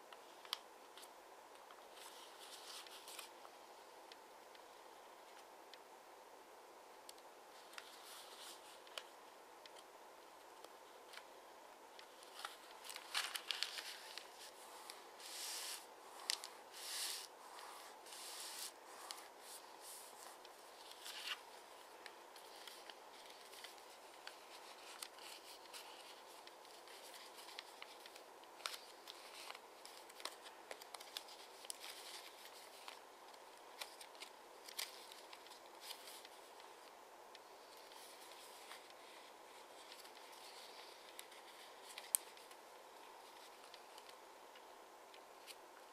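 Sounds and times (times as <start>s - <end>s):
paper rustling and crinkling: 0.1s - 3.6s, 7.5s - 9.8s, 11.9s - 44.2s.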